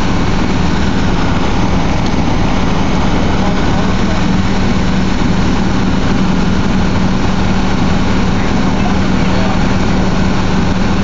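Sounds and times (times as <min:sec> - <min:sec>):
large engine idling: 0:00.0 - 0:11.0.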